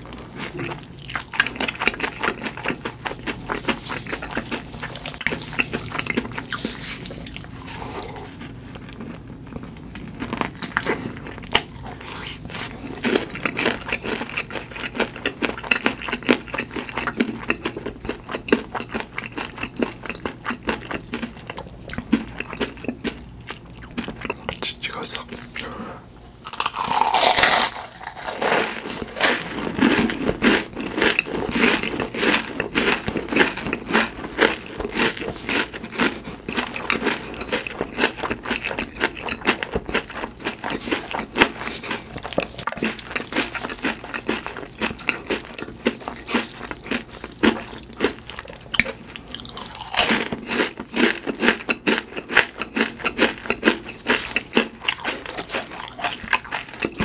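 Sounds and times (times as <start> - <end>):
chewing crispy food: 0.0 - 57.0.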